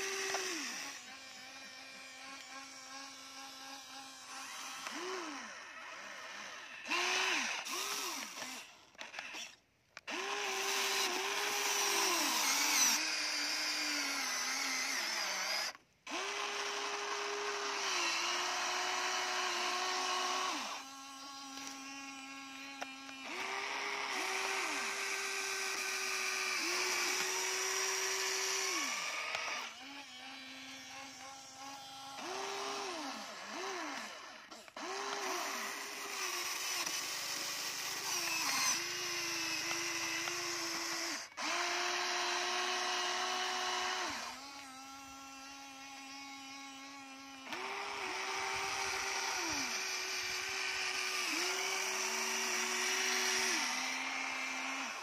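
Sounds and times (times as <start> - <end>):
small electric motors whining: 0.0 - 55.0.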